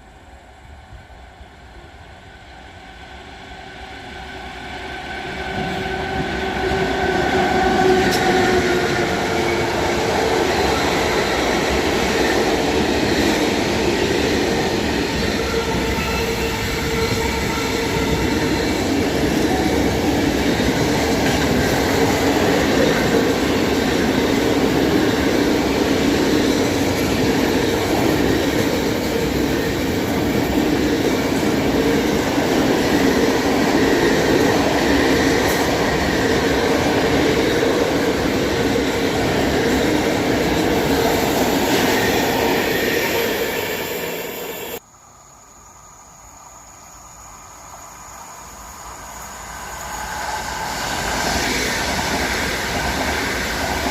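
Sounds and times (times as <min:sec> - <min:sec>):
train wheels rolling on rails: 0:02.1 - 0:44.8, 0:48.5 - 0:53.9.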